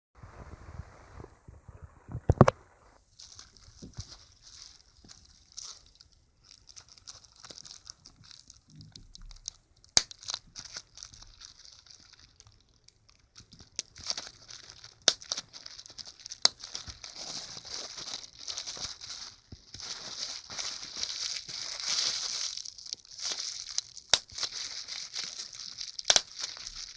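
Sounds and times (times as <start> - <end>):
bubble wrap bubbles popping: 0.2 - 26.9
bubble wrap crinkling: 0.3 - 26.9.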